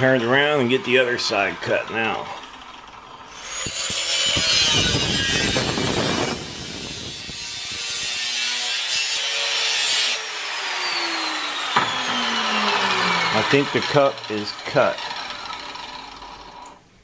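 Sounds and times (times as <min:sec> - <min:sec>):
angle grinder cutting steel: 0:00.0 - 0:16.8.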